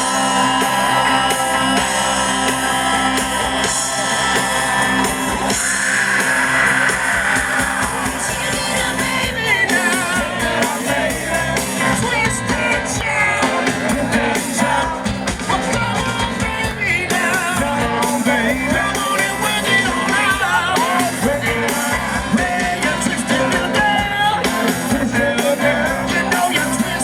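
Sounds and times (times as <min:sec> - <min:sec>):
live rock band playing: 0:00.0 - 0:27.0
singer shouting and singing: 0:00.0 - 0:27.0.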